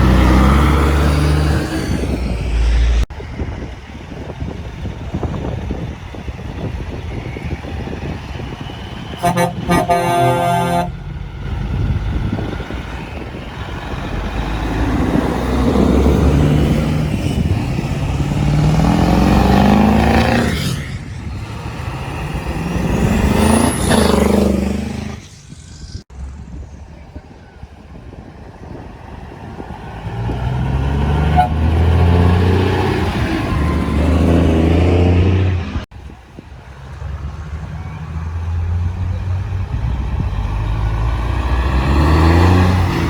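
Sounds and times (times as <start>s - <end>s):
diesel truck engines revving: 0.0s - 43.0s.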